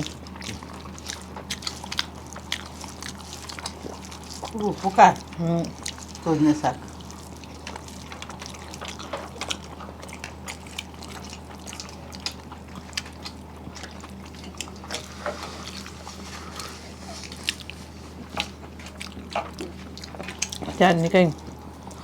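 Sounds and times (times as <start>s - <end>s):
chewing and mouth smacks: 0.0s - 22.0s
steady low hum: 0.0s - 22.0s.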